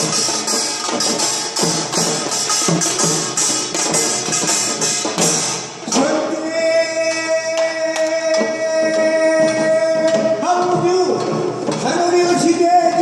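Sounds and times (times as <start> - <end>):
drums beaten rapidly: 0.0 - 13.0.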